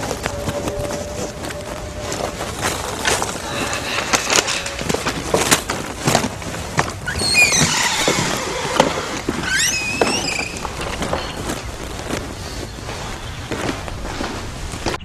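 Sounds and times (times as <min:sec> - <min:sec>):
high sliding squeals: 0:00.0 - 0:14.4.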